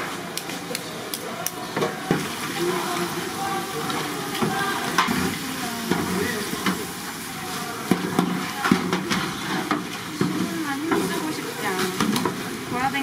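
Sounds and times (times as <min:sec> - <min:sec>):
faint murmuring voices: 0:00.0 - 0:13.0
food sizzling in hot oil: 0:02.1 - 0:13.0.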